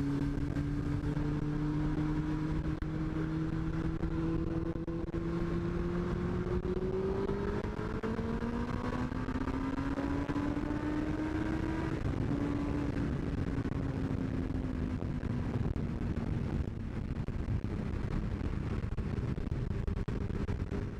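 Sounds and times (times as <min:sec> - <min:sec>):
motorcycle engine revving: 0:00.0 - 0:17.0
wind and road rush: 0:00.0 - 0:20.9.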